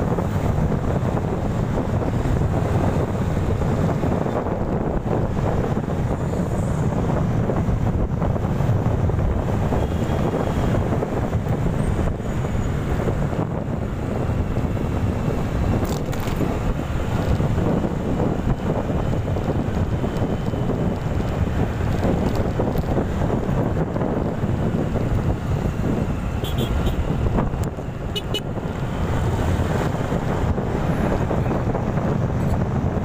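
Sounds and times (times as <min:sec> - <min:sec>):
road noise: 0:00.0 - 0:33.0
wind rush on microphone: 0:00.0 - 0:33.0.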